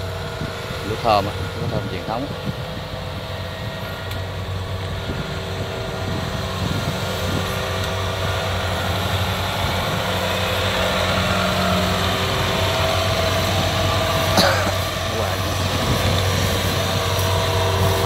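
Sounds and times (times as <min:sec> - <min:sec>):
combine harvester diesel engine: 0:00.0 - 0:18.0.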